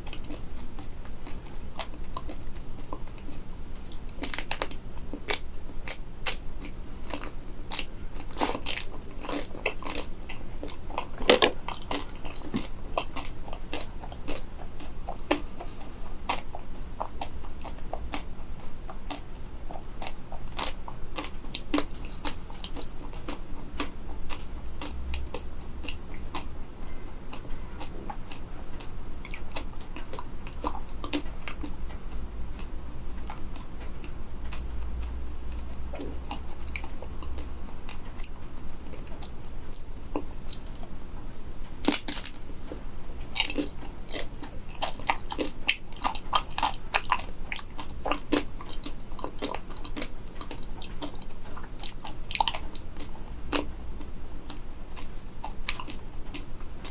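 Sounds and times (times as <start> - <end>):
crunching frozen chocolate coating: 0.0 - 40.9, 41.8 - 56.9
chewing: 0.0 - 41.0, 41.7 - 56.9.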